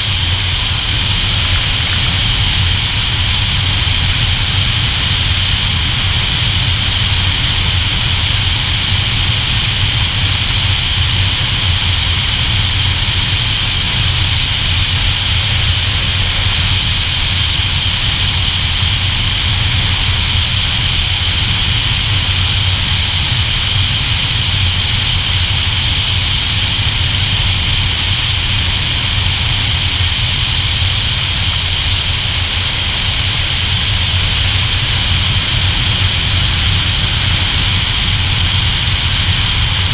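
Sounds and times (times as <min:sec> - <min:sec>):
motorcycle engine: 0:00.0 - 0:39.9
road noise: 0:00.0 - 0:39.9
wind rushing over camera: 0:00.0 - 0:39.9.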